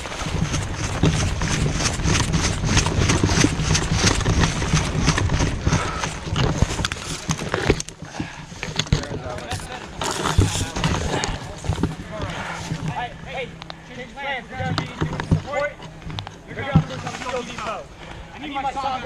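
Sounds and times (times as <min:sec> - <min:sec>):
carried gear rattling: 0:00.0 - 0:17.7
hurried footsteps: 0:00.0 - 0:18.2.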